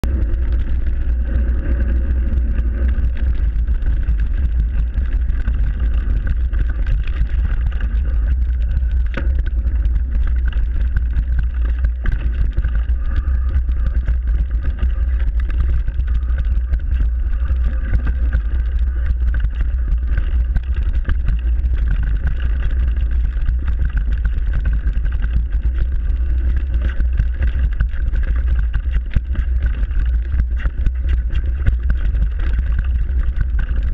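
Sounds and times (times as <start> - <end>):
bike knocks and rattles: 0.0 - 33.9
bike tyre noise: 0.0 - 33.9
wind rumble on microphone: 0.0 - 33.9.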